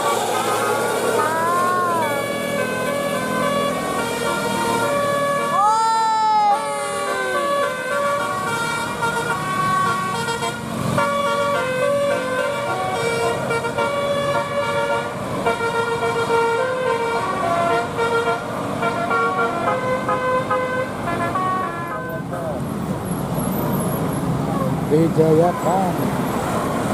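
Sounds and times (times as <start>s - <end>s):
bus musical horn playing: 0.0s - 5.9s, 6.5s - 22.6s.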